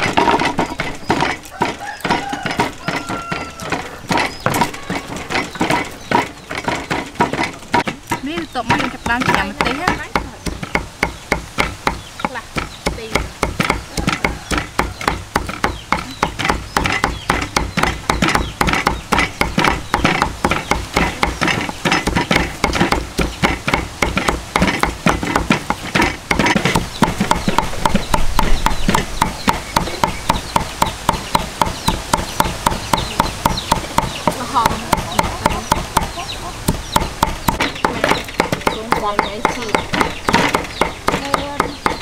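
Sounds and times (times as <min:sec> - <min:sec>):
cleaver chopping on wooden block: 0:00.0 - 0:42.0.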